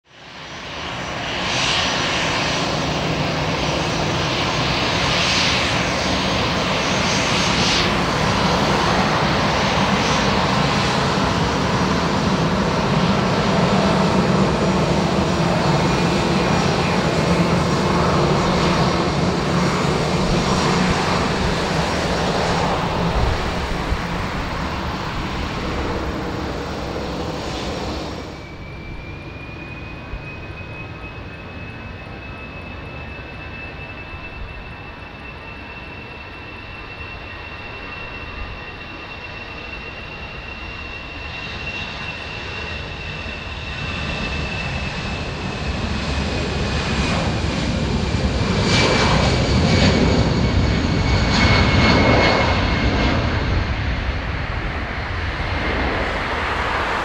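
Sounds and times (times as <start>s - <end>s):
jet engine rumble with whine: 0.0s - 57.0s.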